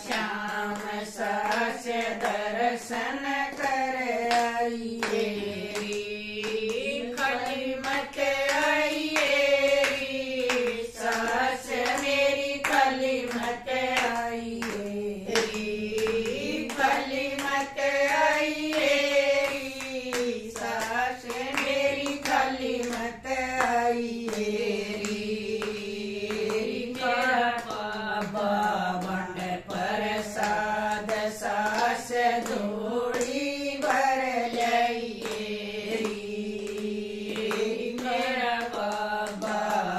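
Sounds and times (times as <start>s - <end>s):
rhythmic hand claps: 0.0s - 39.9s
women singing in unison: 0.0s - 39.9s.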